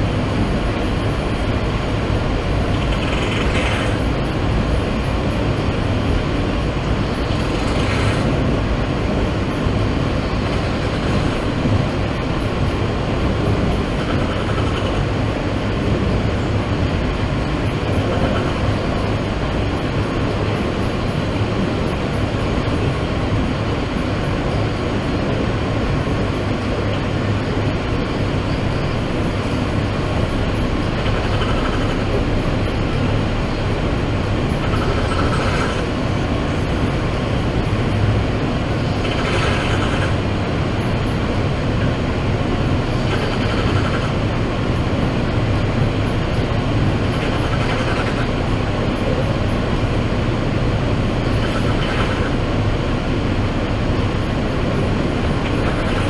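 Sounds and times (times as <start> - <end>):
subway car rumble and hum: 0.0 - 56.0.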